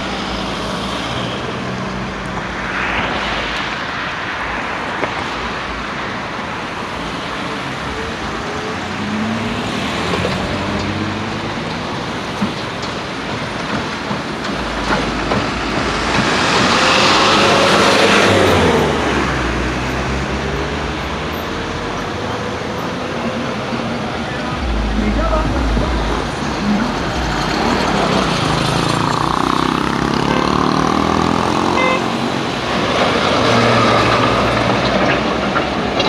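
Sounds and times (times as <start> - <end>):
road noise: 0.0 - 36.0
vehicle engine: 6.9 - 36.0.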